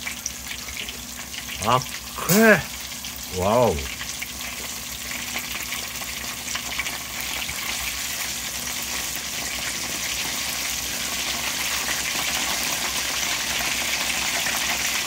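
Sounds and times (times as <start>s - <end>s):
chicken wings deep-frying in oil: 0.0s - 15.0s.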